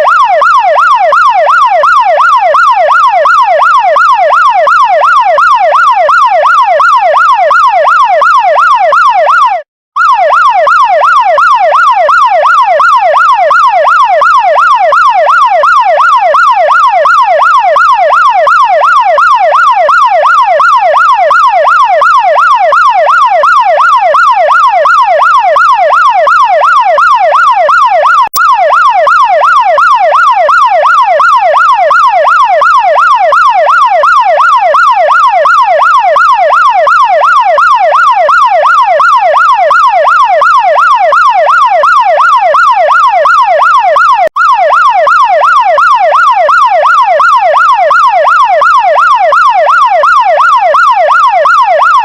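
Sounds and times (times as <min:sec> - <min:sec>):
fire truck electronic siren: 0:00.0 - 0:52.0.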